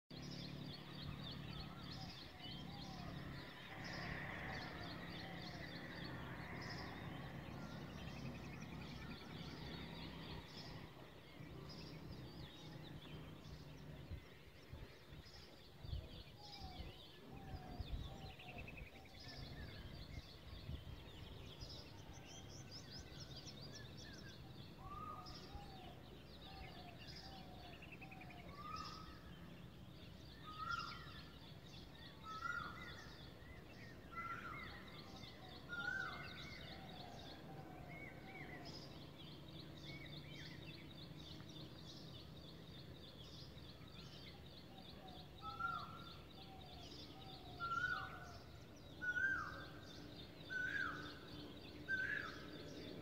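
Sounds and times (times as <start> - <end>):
sparrows chirping: 0.1 - 53.0.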